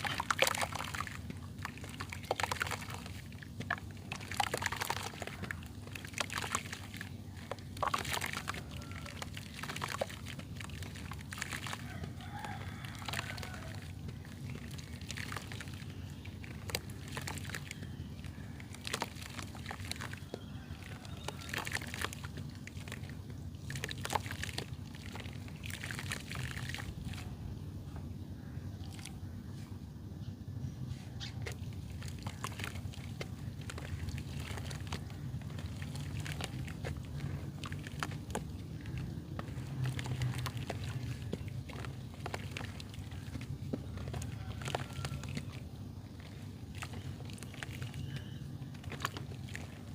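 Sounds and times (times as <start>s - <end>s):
dried mud crumbling: 0.0s - 29.8s, 30.9s - 49.9s
low steady hum: 0.0s - 49.9s.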